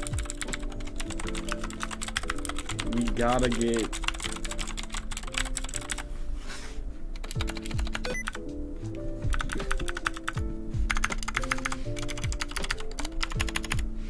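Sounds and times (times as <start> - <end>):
background music with a beat: 0.0 - 4.6, 7.3 - 14.0
mechanical keyboard typing: 0.0 - 6.1, 7.2 - 8.4, 9.3 - 13.9.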